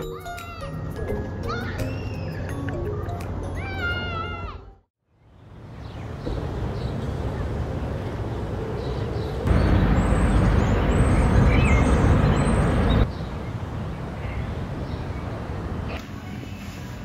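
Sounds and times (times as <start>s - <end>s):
outdoor background noise: 1.0s - 17.0s.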